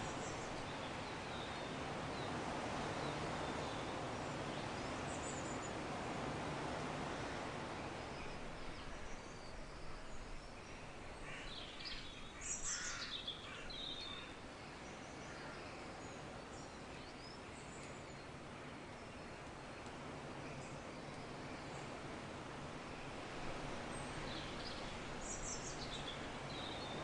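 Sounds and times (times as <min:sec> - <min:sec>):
soft outdoor hiss: 0:00.0 - 0:27.0.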